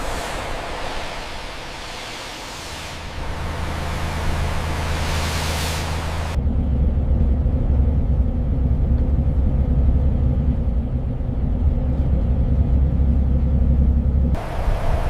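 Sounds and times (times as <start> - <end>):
truck engine rumbling: 2.6 - 15.0.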